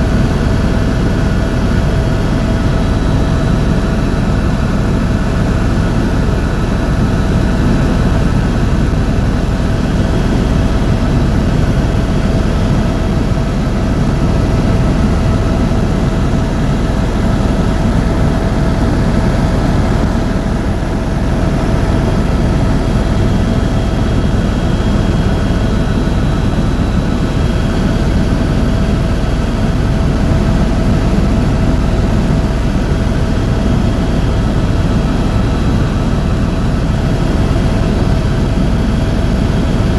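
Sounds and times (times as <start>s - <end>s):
helicopter rotor drone: 0.0s - 39.9s
turbine whine: 0.0s - 39.9s.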